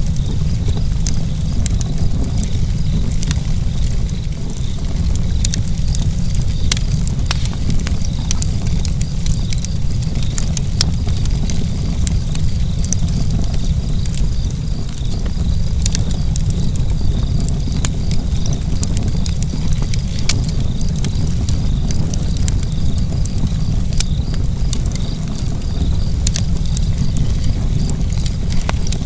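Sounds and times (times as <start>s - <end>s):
fire crackling and popping: 0.0s - 29.0s
low rumble of fire: 0.0s - 29.0s.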